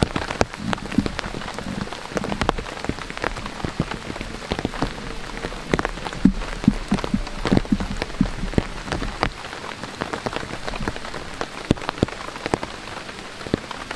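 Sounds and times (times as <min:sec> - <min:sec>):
heavy raindrops tapping: 0:00.0 - 0:13.9
rain hissing: 0:00.0 - 0:13.9.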